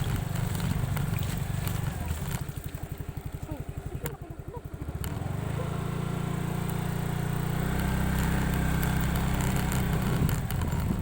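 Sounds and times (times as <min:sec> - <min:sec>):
scooter engine under throttle: 0:00.0 - 0:11.0.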